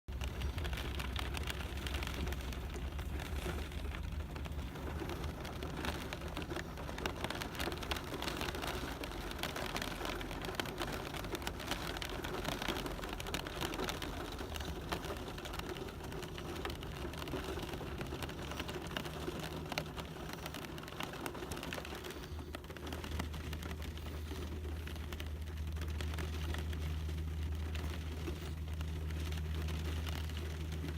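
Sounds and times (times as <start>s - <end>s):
steady rain falling: 0.1s - 30.9s.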